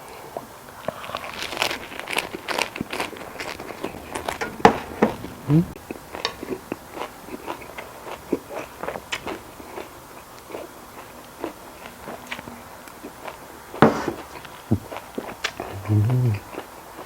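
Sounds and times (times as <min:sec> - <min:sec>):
person chewing crisp food: 0:00.1 - 0:17.0.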